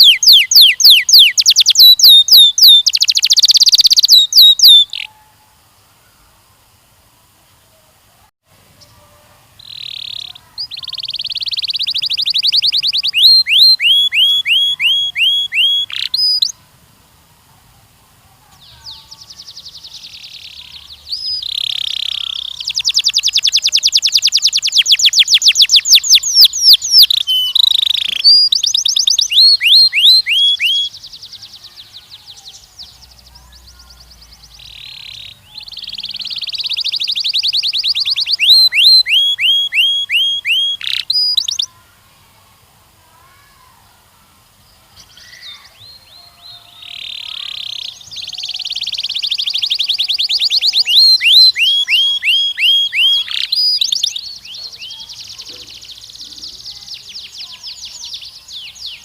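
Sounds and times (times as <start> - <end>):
canary singing: 0.0 - 5.6, 8.8 - 16.6, 18.5 - 41.8, 45.0 - 59.0.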